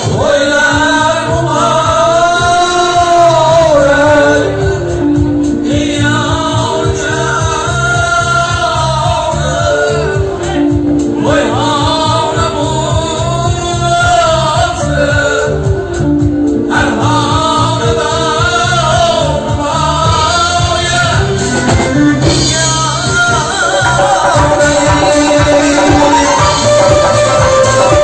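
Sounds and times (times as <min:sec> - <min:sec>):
drum kit: 0:00.0 - 0:28.0
frame drum beat: 0:00.0 - 0:28.0
held accompaniment notes: 0:00.0 - 0:28.0
man singing: 0:00.0 - 0:28.0.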